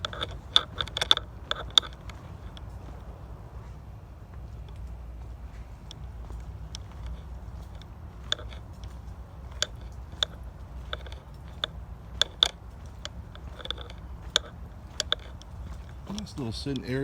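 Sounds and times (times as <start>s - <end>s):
footsteps on dirt trail: 0.0s - 17.0s
steady low rumble: 0.0s - 17.0s.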